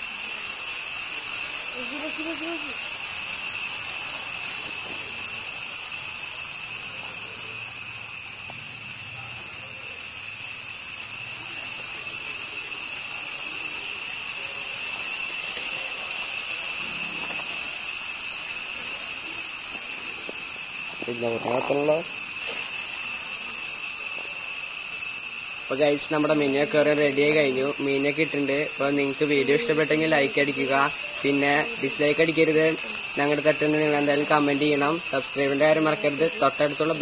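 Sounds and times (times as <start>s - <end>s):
insects buzzing drone: 0.0s - 37.0s.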